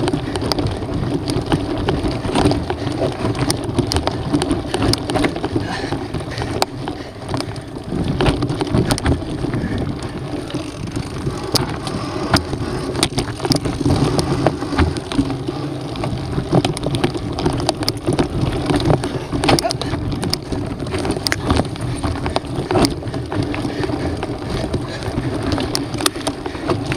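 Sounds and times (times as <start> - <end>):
bike rattling: 0.0 - 26.9
tyres crunching on gravel: 0.0 - 26.9.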